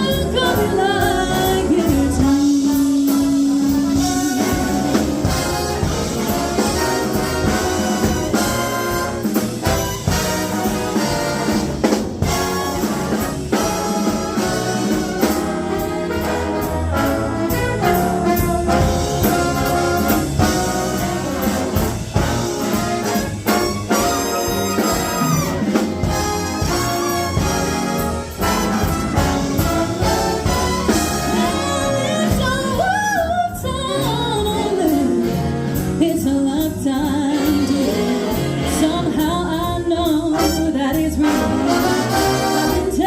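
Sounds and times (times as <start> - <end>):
brass section: 0.0 - 32.8, 40.2 - 43.0
big band jazz: 0.0 - 43.0
drums: 0.0 - 43.0.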